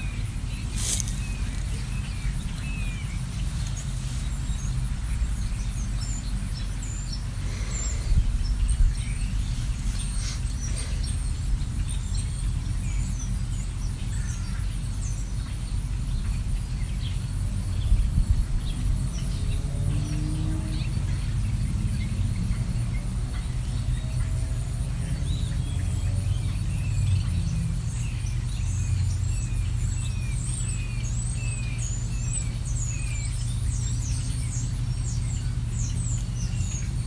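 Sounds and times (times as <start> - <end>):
low droning tone: 0.0 - 37.0
songbirds chirping: 0.0 - 37.0
steady low rumble: 0.0 - 37.0.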